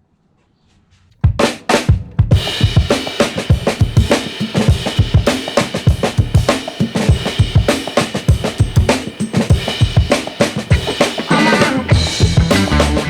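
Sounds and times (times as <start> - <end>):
music with drum beat: 1.2 - 13.0.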